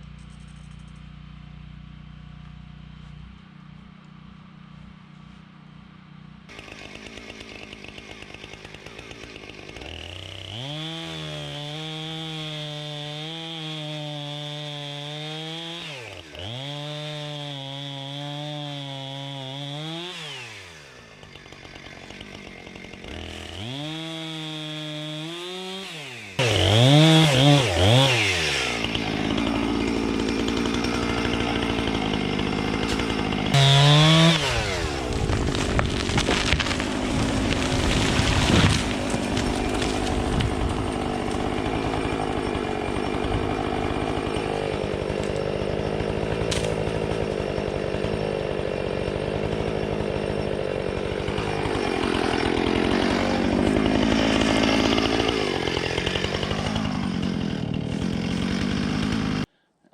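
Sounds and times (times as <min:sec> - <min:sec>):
chainsaw engine revving: 0:06.5 - 0:59.5.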